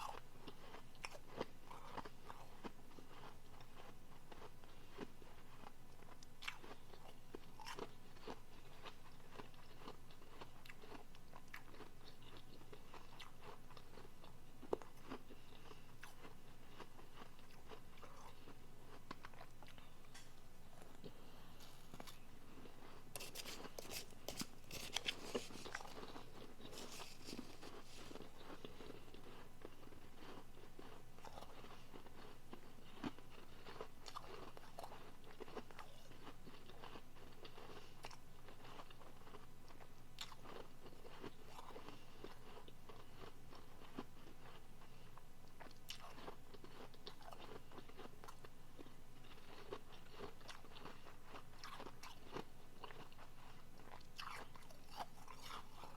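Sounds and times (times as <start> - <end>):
chewing and crunching ice: 0.0 - 55.9.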